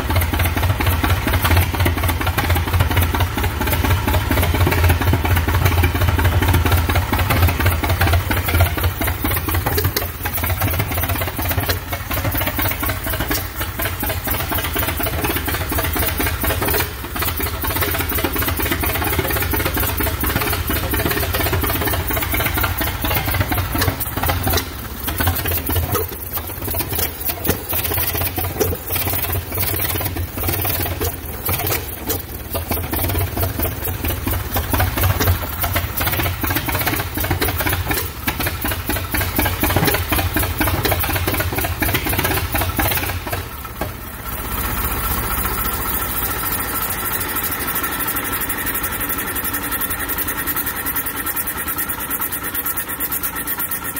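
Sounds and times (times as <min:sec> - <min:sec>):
old engine running unevenly: 0:00.0 - 0:53.9.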